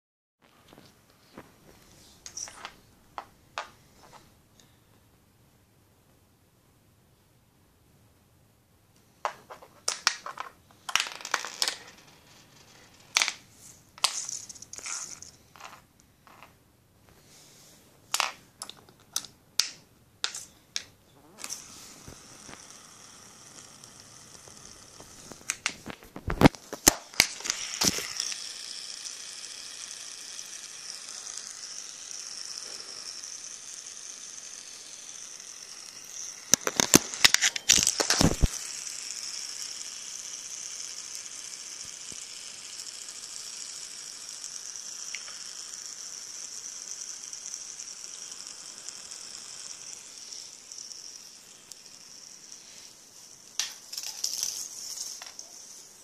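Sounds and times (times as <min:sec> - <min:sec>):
fidget spinner whirring: 0:02.0 - 0:04.2, 0:09.2 - 0:16.5, 0:20.2 - 0:56.0.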